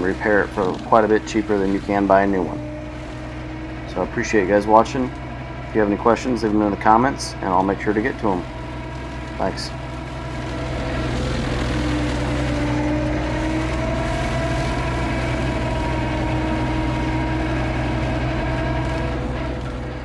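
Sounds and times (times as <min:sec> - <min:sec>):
loader and rotary cutter drone: 0:00.0 - 0:20.0.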